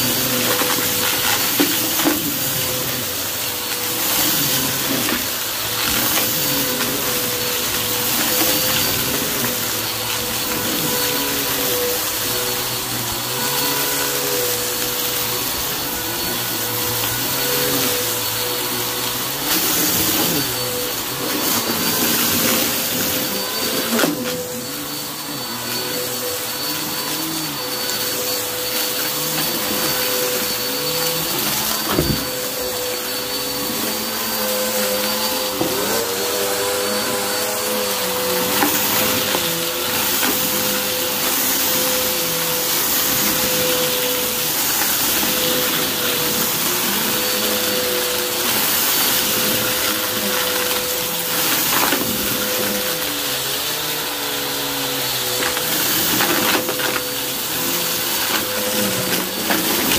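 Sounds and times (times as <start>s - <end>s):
upright vacuum cleaner running: 0.0s - 59.9s.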